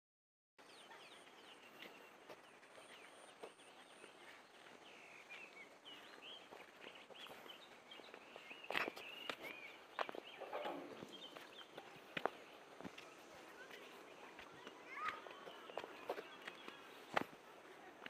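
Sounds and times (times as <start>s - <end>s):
small birds chirping: 0.6s - 18.0s.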